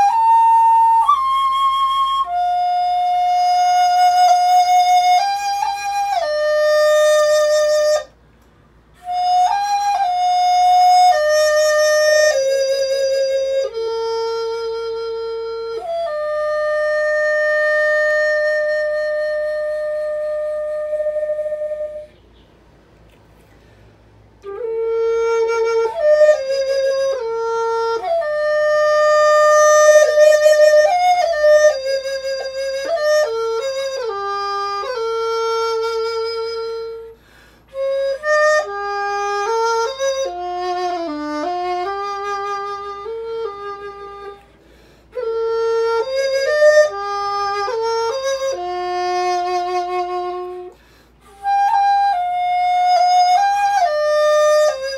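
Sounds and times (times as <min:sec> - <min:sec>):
flute-like melody: 0:00.0 - 0:22.6, 0:24.4 - 0:54.9.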